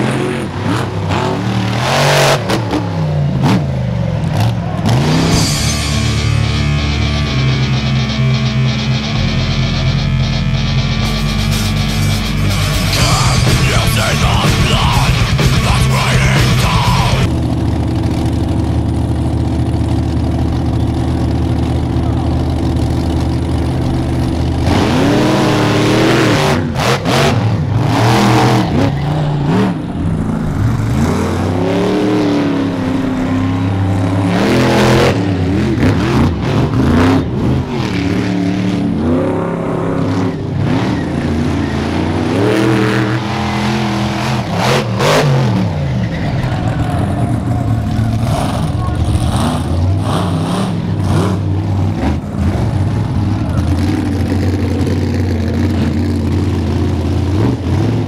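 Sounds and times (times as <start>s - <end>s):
monster truck engines revving: 0.0s - 58.0s.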